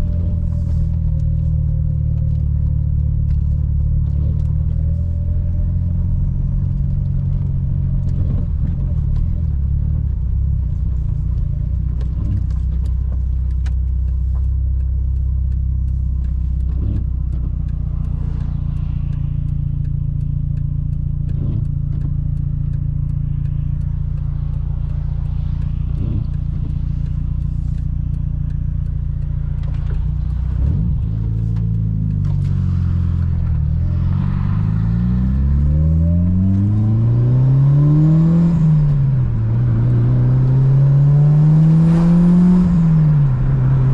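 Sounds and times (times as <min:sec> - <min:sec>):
turbocharged car engine revving: 0:00.0 - 0:43.9.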